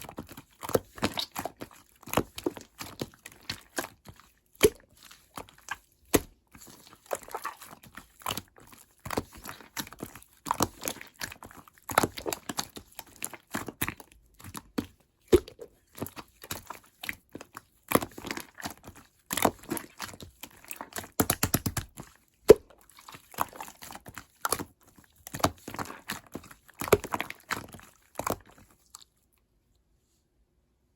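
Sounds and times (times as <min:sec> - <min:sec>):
slime squishing with sticky clicks: 0:00.0 - 0:29.4.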